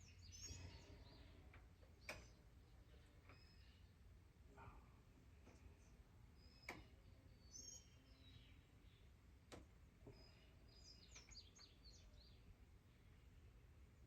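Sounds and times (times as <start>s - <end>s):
faint bird chirps: 0.0s - 9.1s, 10.0s - 13.4s.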